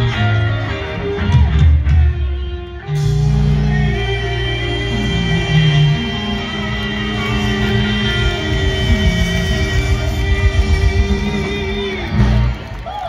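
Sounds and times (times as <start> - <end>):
blues band playing: 0.0 - 13.0.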